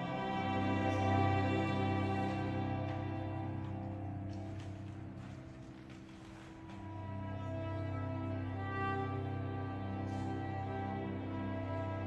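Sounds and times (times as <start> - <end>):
string ensemble sustaining chord: 0.0 - 12.0.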